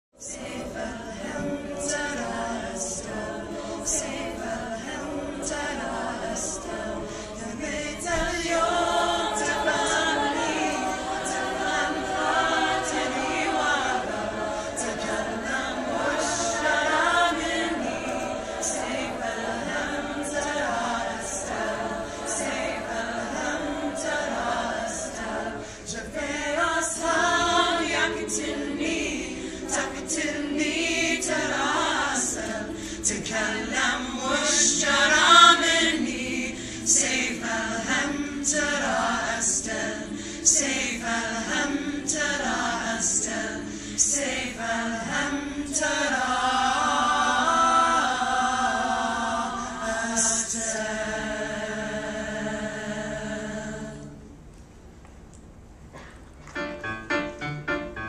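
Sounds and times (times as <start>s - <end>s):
choir singing: 0.2s - 54.4s.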